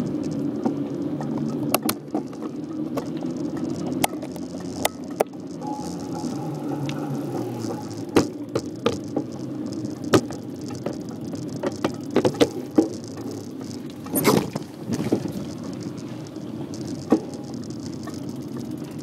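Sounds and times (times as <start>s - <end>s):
bicycle tyres rumbling on road: 0.0s - 19.0s
bike rattling over bumps: 0.0s - 19.0s.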